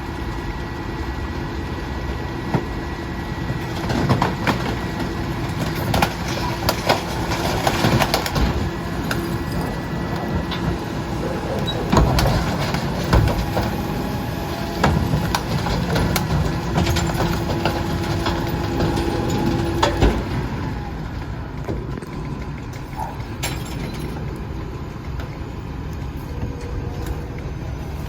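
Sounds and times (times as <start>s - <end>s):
garbage truck engine hum: 0.0s - 28.0s.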